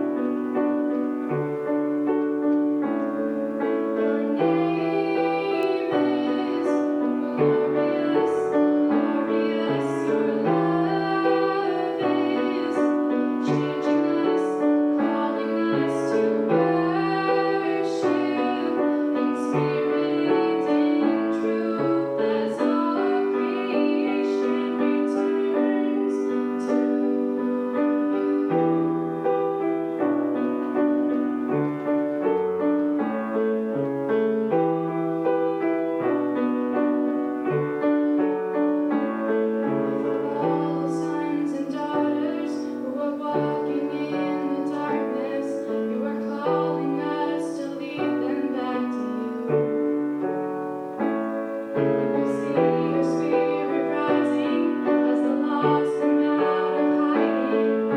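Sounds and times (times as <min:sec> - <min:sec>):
piano playing worship song: 0:00.0 - 0:57.9.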